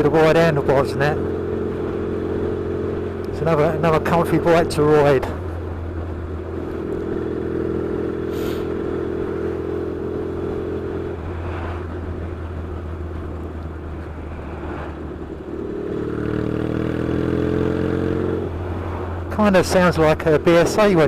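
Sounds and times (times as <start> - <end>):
motorcycle engine through loud pipes: 0.0 - 21.0.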